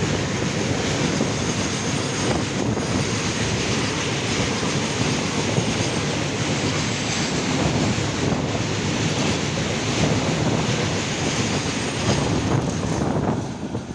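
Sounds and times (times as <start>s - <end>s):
train passing on track: 0.0s - 13.9s.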